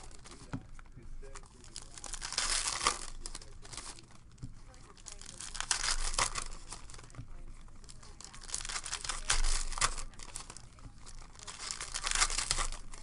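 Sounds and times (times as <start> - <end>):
foil wrappers tearing and crinkling: 0.0 - 13.0.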